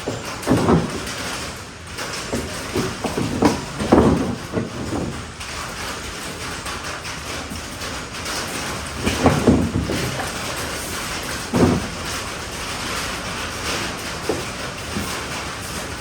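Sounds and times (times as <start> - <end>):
knocks and scraping of bumper: 0.0 - 16.0.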